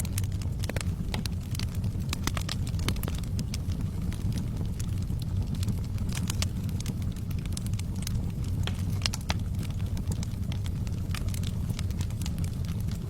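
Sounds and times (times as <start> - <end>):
fire rumbling: 0.0 - 13.0
wood fire crackling and popping: 0.0 - 13.0.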